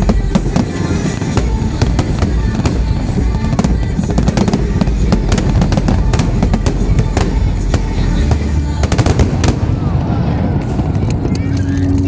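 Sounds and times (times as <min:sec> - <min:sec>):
fireworks cracks and bangs: 0:00.0 - 0:11.4
low rumble of fireworks bursts: 0:00.0 - 0:11.4.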